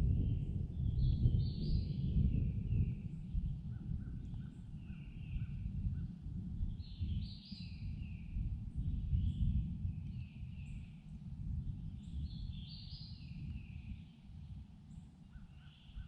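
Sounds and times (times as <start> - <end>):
steady low rumble: 0.0 - 16.0
birds singing: 0.1 - 11.1, 11.8 - 16.0.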